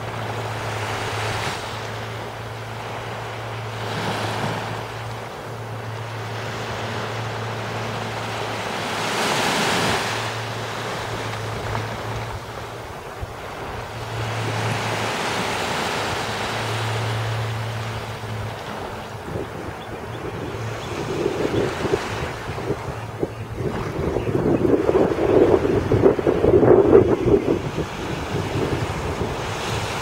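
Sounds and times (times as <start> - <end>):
small waves washing: 0.0 - 30.0
steady low hum: 0.0 - 30.0
wind buffeting microphone: 0.0 - 30.0.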